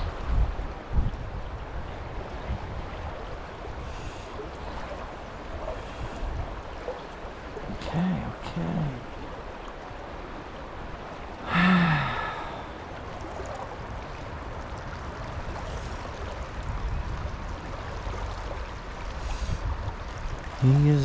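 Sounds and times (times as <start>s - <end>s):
fast river water rushing: 0.0s - 21.0s.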